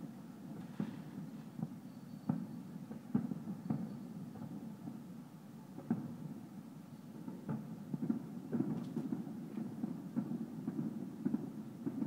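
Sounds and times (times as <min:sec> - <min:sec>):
distant fireworks bangs: 0:00.5 - 0:05.0, 0:05.7 - 0:06.4, 0:07.2 - 0:12.0.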